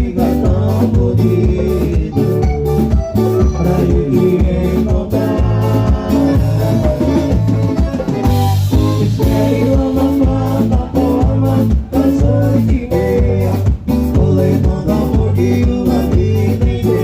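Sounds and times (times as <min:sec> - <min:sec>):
band music with drums and bass: 0:00.0 - 0:17.0.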